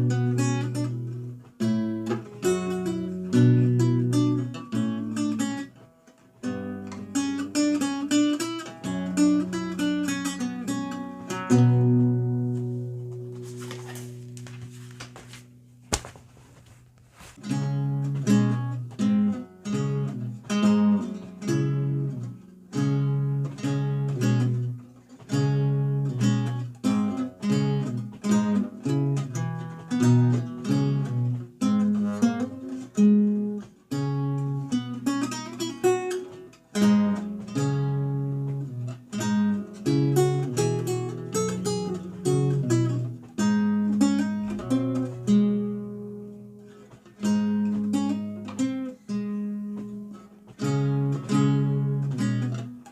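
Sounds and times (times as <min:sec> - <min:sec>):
lute plucked notes and chords: 0:00.0 - 0:14.6, 0:17.4 - 0:52.9.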